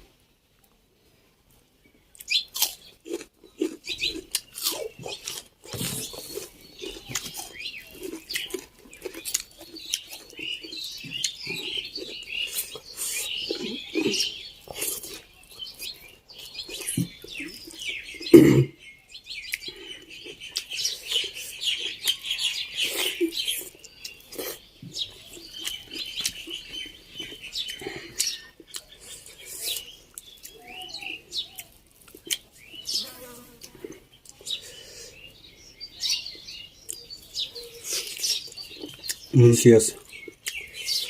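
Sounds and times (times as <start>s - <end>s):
chewing and mouth clicks: 2.1s - 18.3s, 19.4s - 32.8s, 36.8s - 39.4s, 40.0s - 41.0s.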